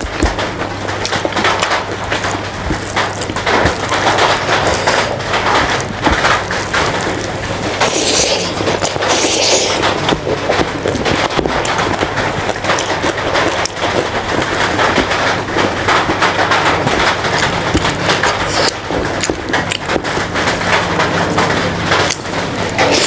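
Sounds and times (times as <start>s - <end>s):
fingers squishing rice: 0.0s - 23.0s
wet chewing and lip-smacking: 0.0s - 23.0s.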